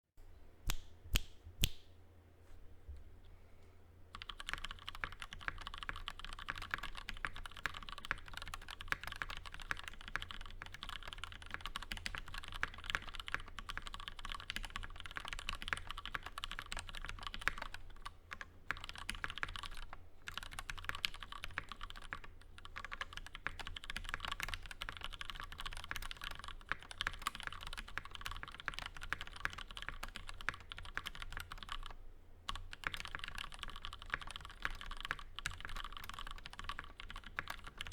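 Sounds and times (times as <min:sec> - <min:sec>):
mechanical keyboard typing: 0:04.1 - 0:37.9.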